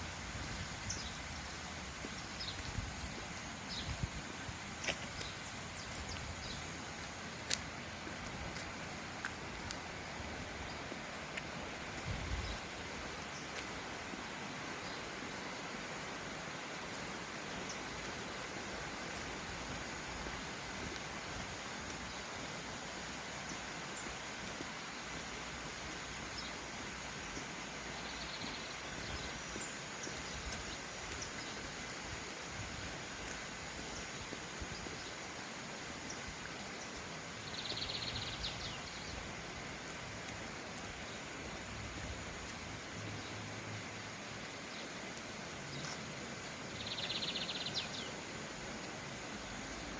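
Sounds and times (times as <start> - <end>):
creek rushing: 0.0 - 49.9.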